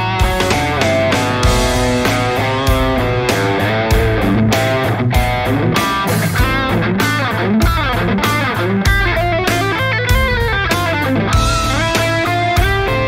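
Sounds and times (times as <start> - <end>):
drums steady beat: 0.0 - 13.0
electric guitar lead melody: 0.0 - 13.0
low bass: 0.0 - 13.0.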